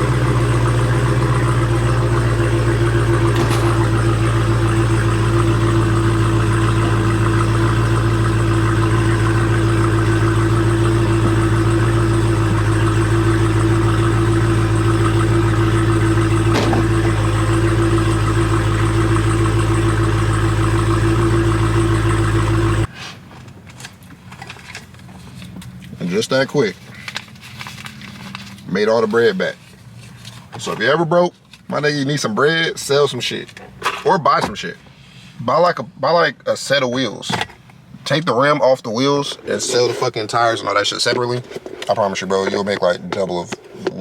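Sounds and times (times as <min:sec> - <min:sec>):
car engine running: 0:00.0 - 0:35.2, 0:37.2 - 0:44.0.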